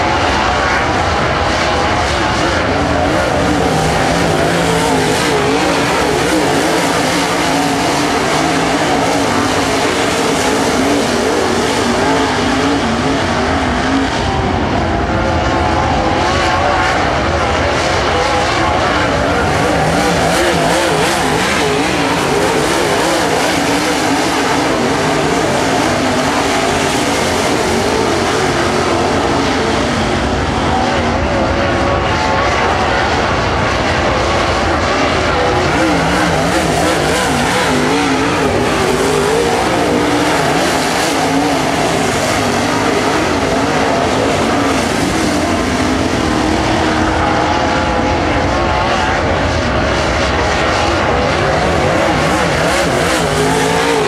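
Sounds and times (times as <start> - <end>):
race car engines running hard: 0.0 - 54.0.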